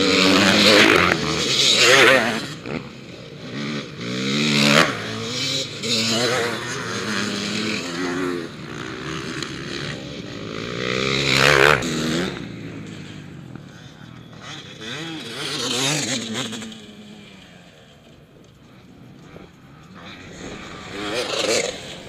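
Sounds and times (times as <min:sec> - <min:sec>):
motocross bikes racing past: 0:00.0 - 0:22.0.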